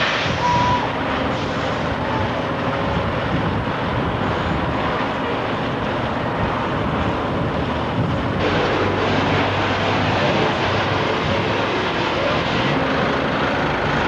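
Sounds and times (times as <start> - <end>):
diesel lorry engine running: 0.0 - 14.0.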